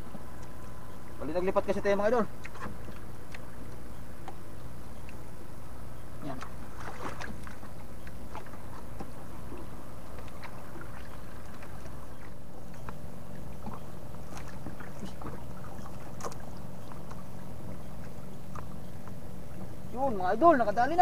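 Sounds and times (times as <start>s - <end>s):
boat engine humming: 0.0s - 21.0s
water splashing against hull: 0.0s - 21.0s.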